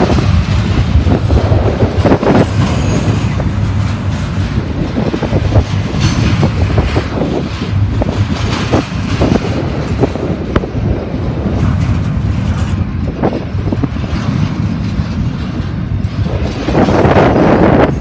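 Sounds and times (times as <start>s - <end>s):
train clanks and clicks: 0.0s - 18.0s
train wheels rumbling on rail: 0.0s - 18.0s.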